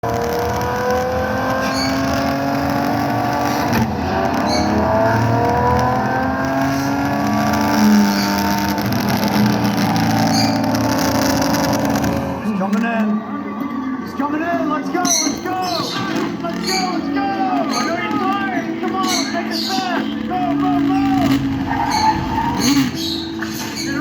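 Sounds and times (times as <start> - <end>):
racing car engines revving: 0.0 - 24.0.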